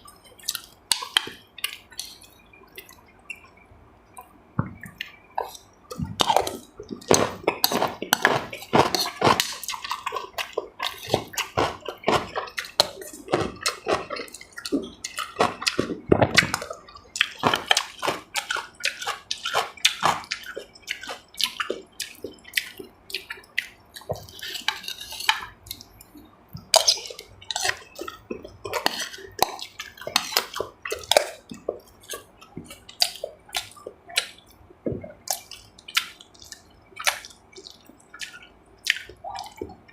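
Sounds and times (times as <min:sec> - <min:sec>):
wet chewing and slurping: 0:00.0 - 0:03.5, 0:04.1 - 0:39.9.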